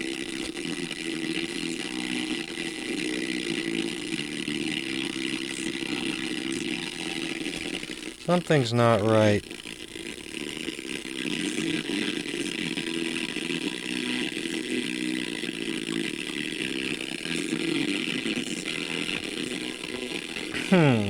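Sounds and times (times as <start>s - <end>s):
buzzy distorted speaker audio: 0.0s - 21.0s.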